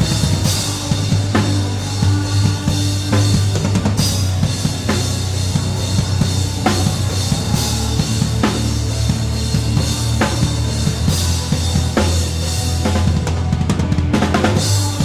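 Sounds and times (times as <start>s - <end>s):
fast bass drum pattern: 0.0s - 15.0s
rock drum kit: 0.0s - 15.0s
sustained low bass: 0.0s - 15.0s.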